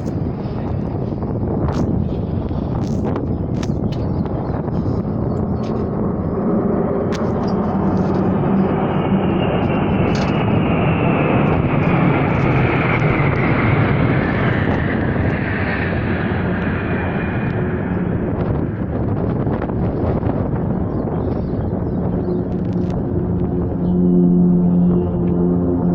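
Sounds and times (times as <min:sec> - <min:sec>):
high jet whine falling in pitch: 0:00.0 - 0:25.9
military jet flying over: 0:00.0 - 0:25.9.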